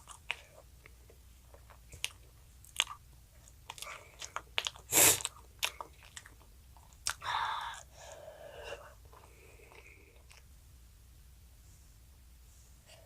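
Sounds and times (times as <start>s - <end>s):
child chewing food: 0.0s - 10.6s.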